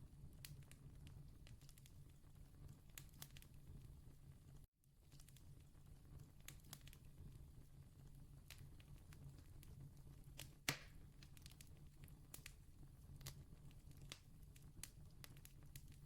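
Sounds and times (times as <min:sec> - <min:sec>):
campfire wood crackling: 0:00.1 - 0:16.0.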